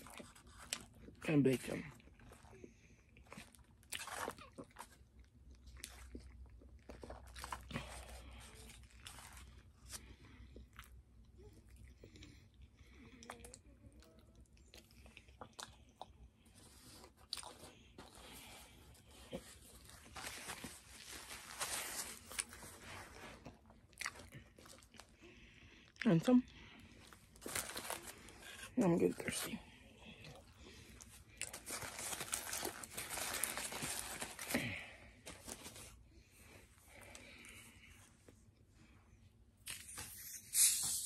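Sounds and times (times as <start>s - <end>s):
chewing crispy food: 0.0s - 1.2s, 1.9s - 28.8s, 29.8s - 35.2s.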